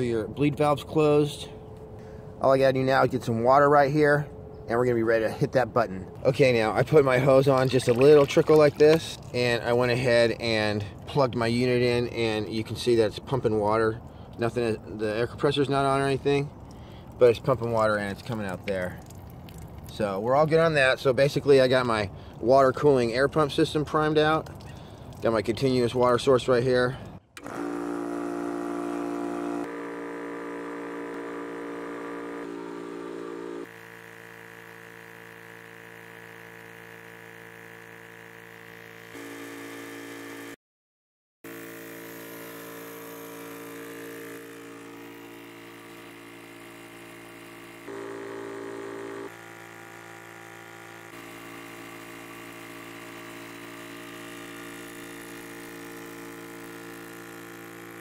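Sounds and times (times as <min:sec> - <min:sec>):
air compressor humming: 0:00.0 - 0:13.3, 0:14.0 - 0:40.6, 0:41.5 - 0:58.0.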